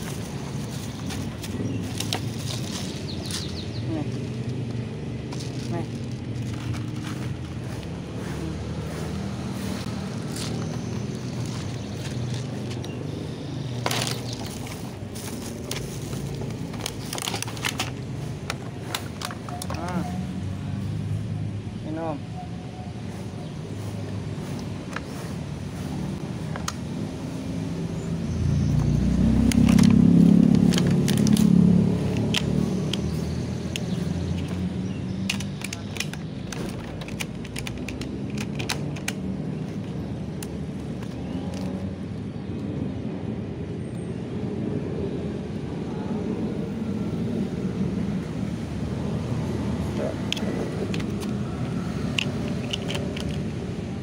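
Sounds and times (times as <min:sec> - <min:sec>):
road traffic rumble: 0:00.0 - 0:54.0
vehicle passing: 0:00.0 - 0:54.0.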